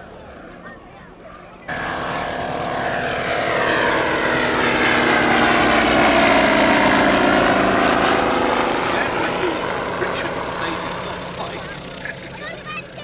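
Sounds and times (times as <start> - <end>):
radial aircraft engine and propeller: 0.0 - 13.0.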